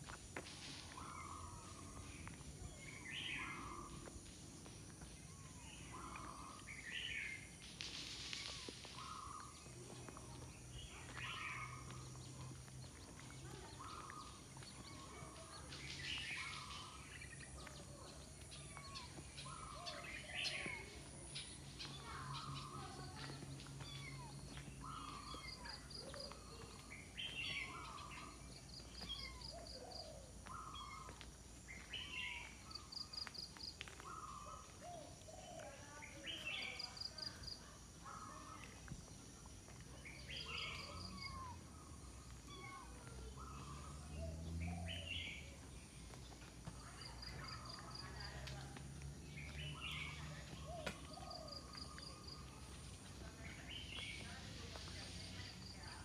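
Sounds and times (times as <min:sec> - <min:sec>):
birds calling: 0:00.5 - 0:48.5.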